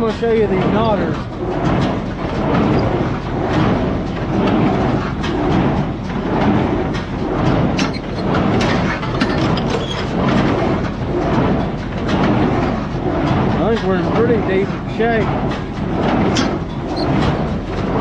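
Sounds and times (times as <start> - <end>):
baler mechanical clatter: 0.0 - 18.0.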